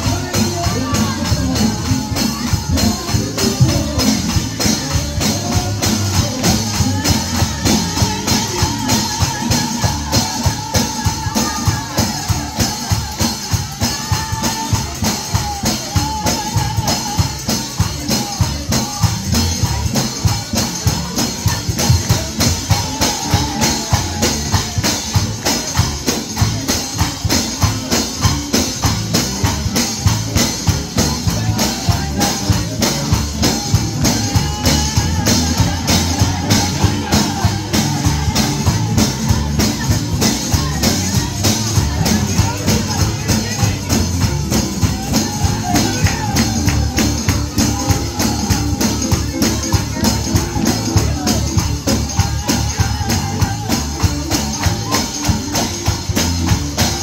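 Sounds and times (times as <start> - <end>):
drums and bass: 0.0 - 57.0
person singing: 0.0 - 57.0
tambourine shaken and struck: 0.0 - 57.0.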